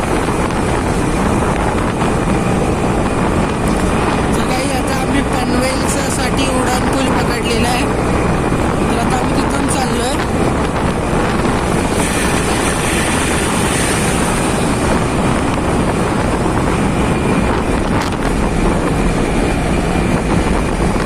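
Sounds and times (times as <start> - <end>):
motorcycle and road noise: 0.0 - 21.0
wind noise on microphone: 0.0 - 21.0.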